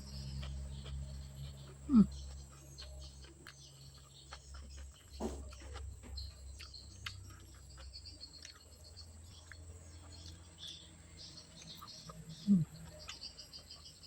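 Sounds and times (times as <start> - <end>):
chewing and mouth smacks: 0.2 - 10.8, 11.5 - 14.0.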